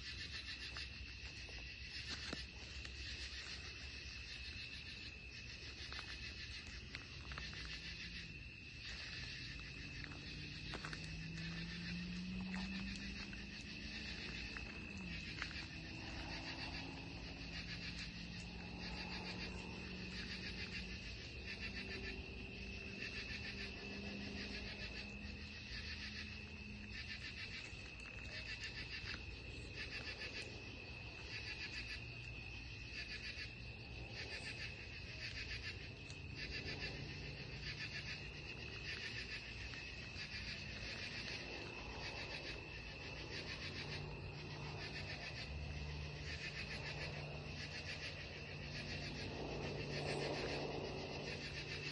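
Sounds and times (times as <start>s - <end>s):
insect pulsing call: 0.0s - 51.9s
insects trilling: 0.0s - 51.9s.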